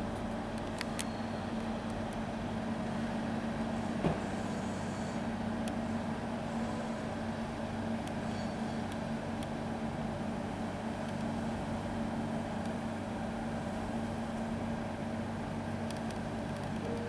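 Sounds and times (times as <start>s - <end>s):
train rolling with hum and rumble: 0.0s - 17.0s.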